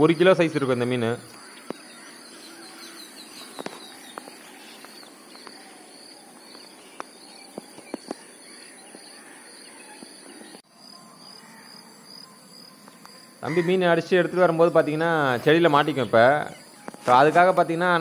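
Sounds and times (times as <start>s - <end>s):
faint chirping: 0.0s - 18.0s.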